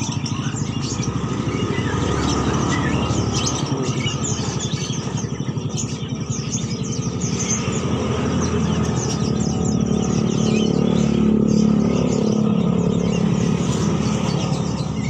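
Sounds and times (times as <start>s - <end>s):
engine rumble: 0.0s - 15.0s
songbirds chirping: 0.0s - 15.0s.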